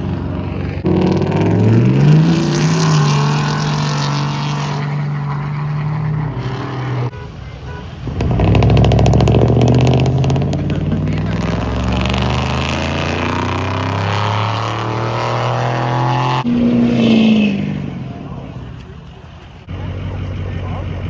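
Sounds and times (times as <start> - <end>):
pickup truck engine revving: 0.0 - 21.0.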